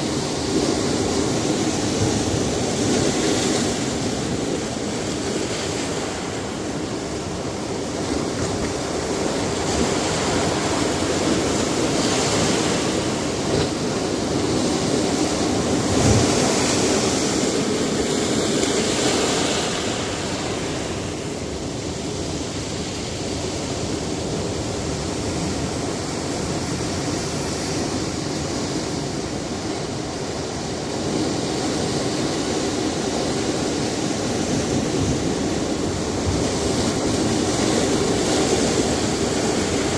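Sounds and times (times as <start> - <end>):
waves washing against rocks: 0.0 - 39.9.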